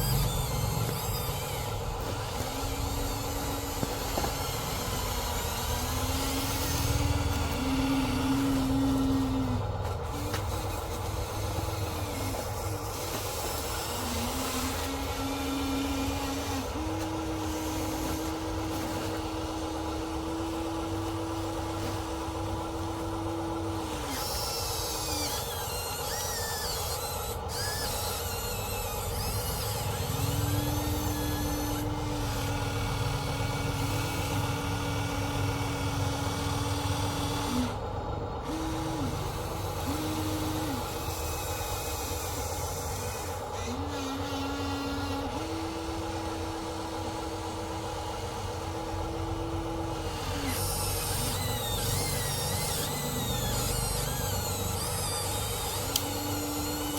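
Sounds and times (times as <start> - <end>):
electric motors and gear drives: 0.0 - 56.9.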